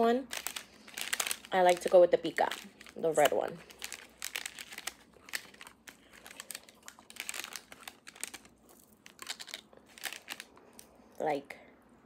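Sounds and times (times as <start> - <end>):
food wrapping crinkling: 0.0 - 11.0.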